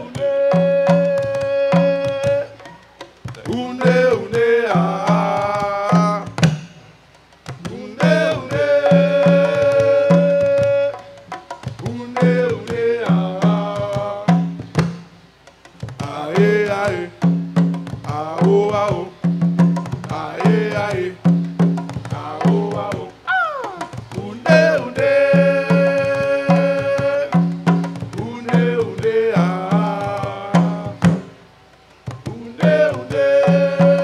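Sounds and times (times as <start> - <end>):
man singing: 0.0 - 2.7, 3.3 - 6.4, 7.6 - 11.2, 11.8 - 14.6, 16.0 - 17.4, 18.0 - 19.4, 20.0 - 21.4, 22.1 - 31.2, 32.2 - 34.0
djembe hand drums: 0.0 - 34.0.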